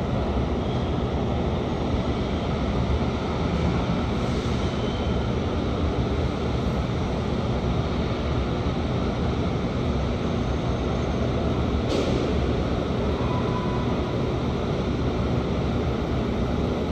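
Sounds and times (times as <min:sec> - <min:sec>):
rail yard rumble: 0:00.0 - 0:16.9.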